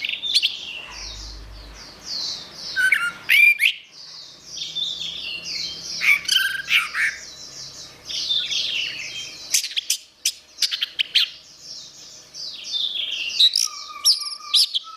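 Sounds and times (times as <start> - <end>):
bird singing warbled phrases: 0.0 - 14.9.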